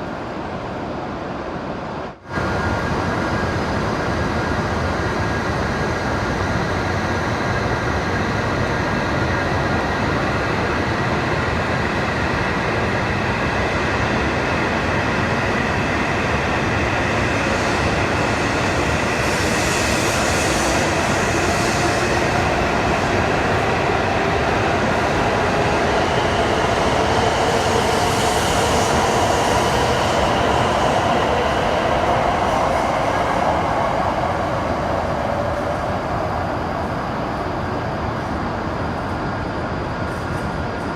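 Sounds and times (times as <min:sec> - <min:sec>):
train rumbling: 0:00.0 - 0:40.9.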